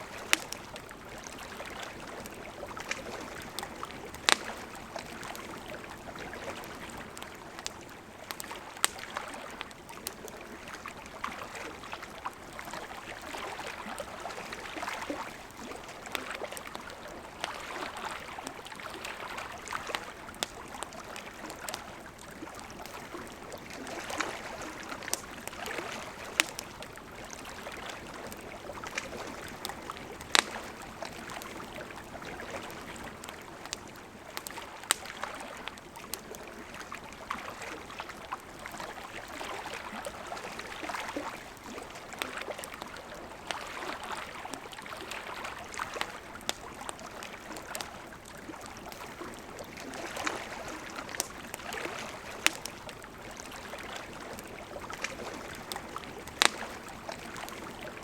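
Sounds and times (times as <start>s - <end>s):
campfire crackling: 0.0s - 58.0s
river water flowing: 0.0s - 58.0s.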